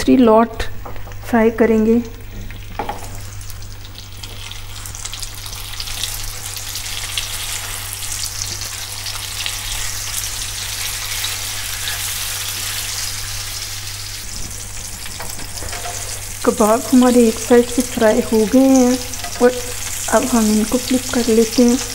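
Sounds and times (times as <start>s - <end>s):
kebabs sizzling in hot oil: 2.2s - 21.9s.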